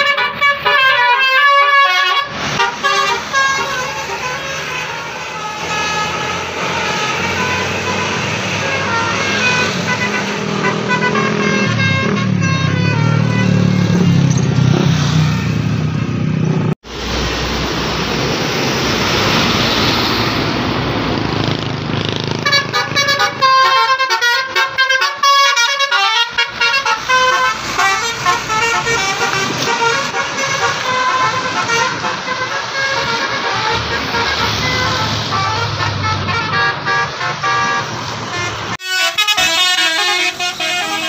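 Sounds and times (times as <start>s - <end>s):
musical bus air horns: 0.0s - 15.9s, 22.4s - 41.0s
bus engine and traffic: 0.0s - 41.0s.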